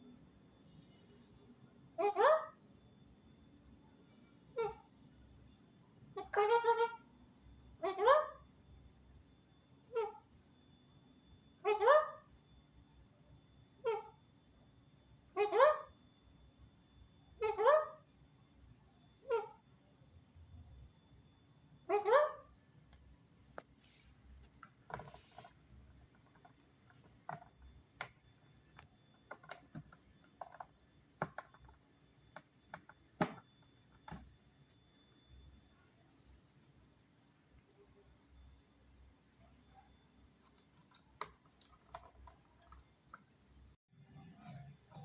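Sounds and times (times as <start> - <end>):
insect trilling: 4.3 - 8.5, 9.2 - 19.9, 20.8 - 45.0.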